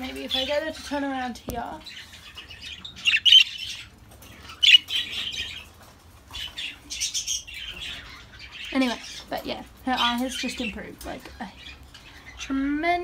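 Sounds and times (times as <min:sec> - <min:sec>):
budgerigar chirping and squawking: 0:00.1 - 0:10.9.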